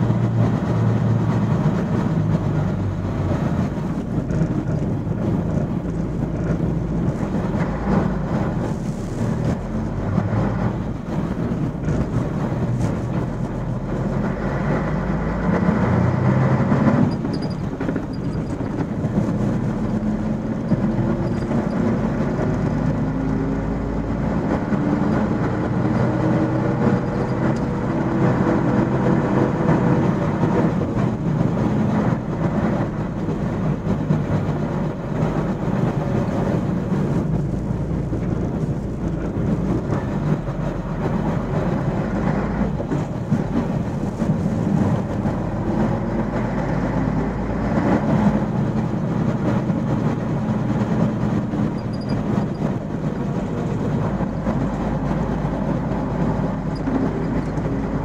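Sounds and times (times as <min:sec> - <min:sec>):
diesel engine rumble: 0:00.0 - 0:58.0
road noise: 0:00.0 - 0:58.0.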